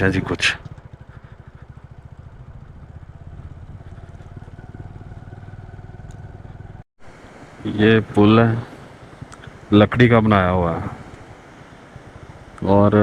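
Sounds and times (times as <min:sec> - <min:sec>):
motorcycle engine idling low: 0:00.0 - 0:13.0.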